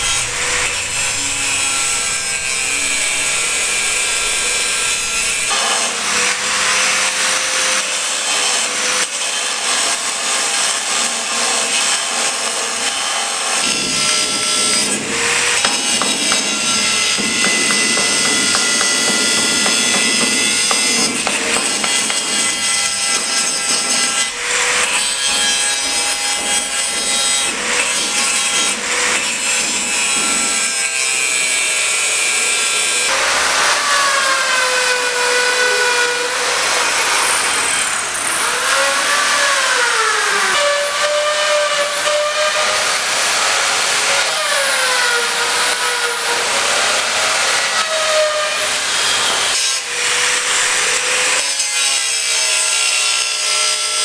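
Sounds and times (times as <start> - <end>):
power tool cutting: 0.0 - 54.0.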